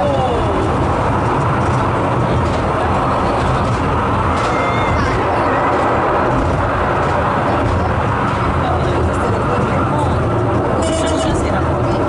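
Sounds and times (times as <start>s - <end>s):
rail car wheels rumbling: 0.0s - 12.0s.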